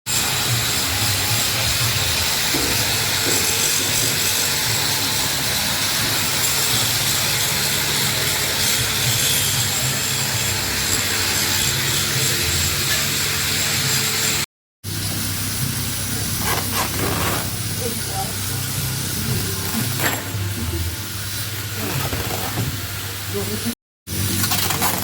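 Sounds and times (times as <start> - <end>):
grinding machine hissing and humming: 0.1 - 25.0.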